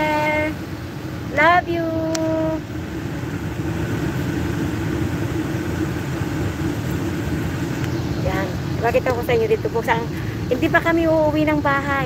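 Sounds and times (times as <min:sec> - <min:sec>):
engine and road rumble: 0:00.0 - 0:12.0
steady hum: 0:00.0 - 0:12.0.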